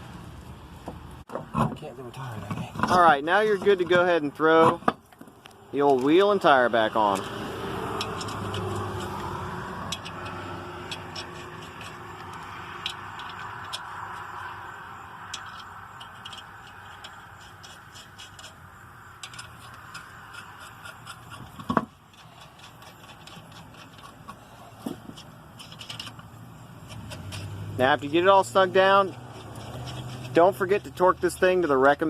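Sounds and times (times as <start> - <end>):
metallic clicks and scrapes: 1.3 - 32.0.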